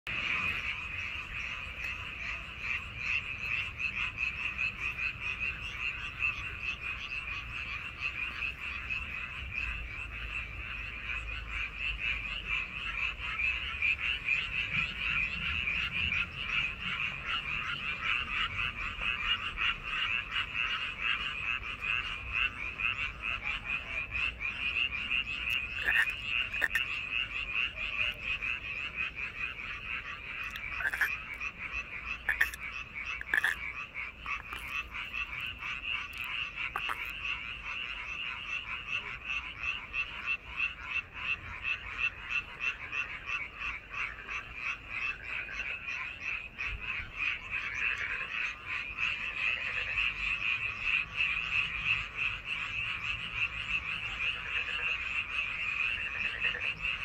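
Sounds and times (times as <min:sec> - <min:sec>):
chorus of frogs calling: 0:00.1 - 0:57.0.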